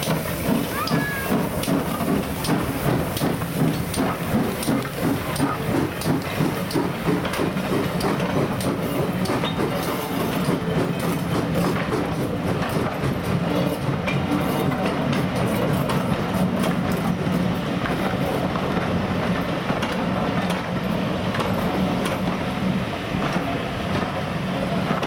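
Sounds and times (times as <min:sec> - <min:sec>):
train rumble: 0:00.0 - 0:25.0
train wheels clattering on rails: 0:00.0 - 0:25.0.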